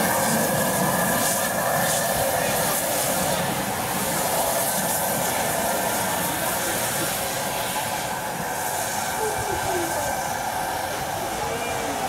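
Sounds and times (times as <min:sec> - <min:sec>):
steady hiss of steam: 0:00.0 - 0:12.0
steam locomotive running slowly: 0:00.0 - 0:12.0.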